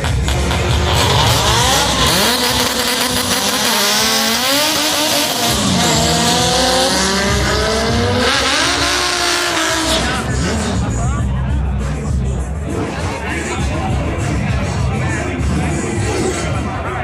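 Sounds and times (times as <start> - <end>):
drag cars accelerating hard: 0.0 - 16.8.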